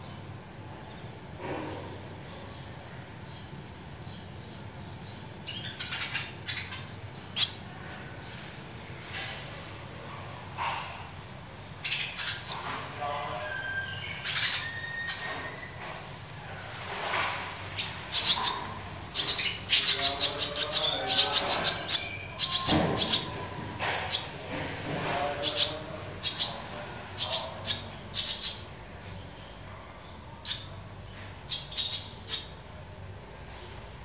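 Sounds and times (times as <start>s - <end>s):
swallows chirping and twittering: 0.0s - 8.4s, 9.1s - 34.0s.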